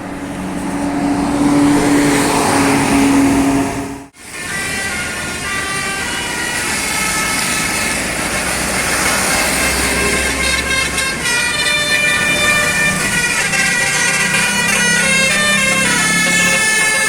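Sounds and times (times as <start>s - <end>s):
bus engine running: 0.0s - 17.0s
musical air horn: 0.0s - 17.0s.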